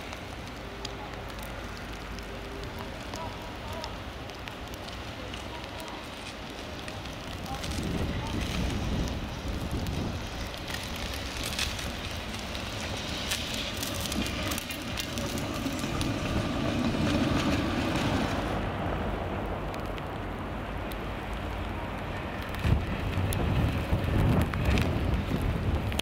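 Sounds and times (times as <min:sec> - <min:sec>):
tram wheels rumbling: 0:00.0 - 0:26.0.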